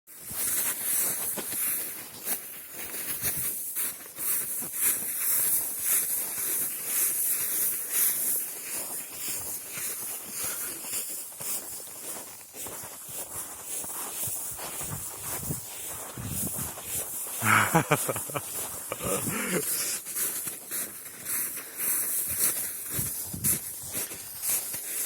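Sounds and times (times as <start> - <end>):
footsteps crunching in snow: 0.1 - 25.0.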